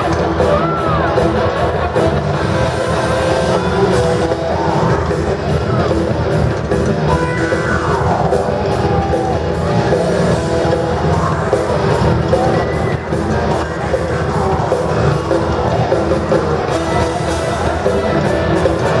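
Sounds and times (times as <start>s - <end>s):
heavy rock music: 0.0s - 19.0s
motorcycle engines whining: 0.0s - 19.0s.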